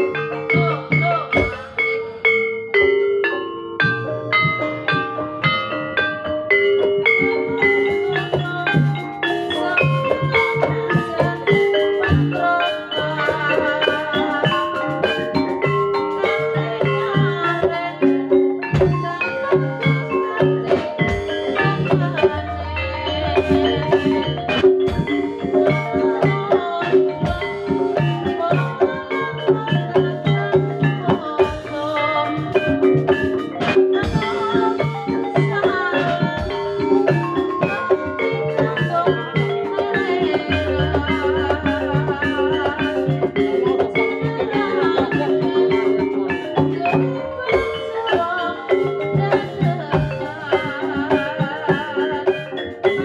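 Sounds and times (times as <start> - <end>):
drums playing rhythm: 0.0 - 53.0
gamelan metallophones: 0.0 - 53.0.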